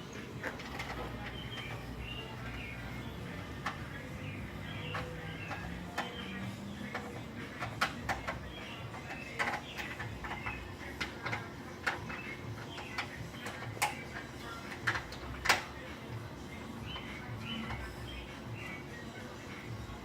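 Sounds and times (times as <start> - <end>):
steady low hum: 0.0 - 20.0
hand tools and metal hardware clicking: 0.2 - 18.8.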